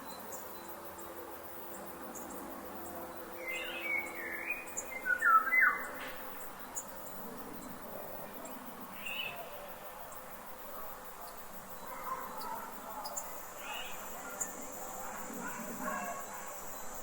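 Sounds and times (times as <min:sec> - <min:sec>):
soft forest hiss: 0:00.0 - 0:17.0.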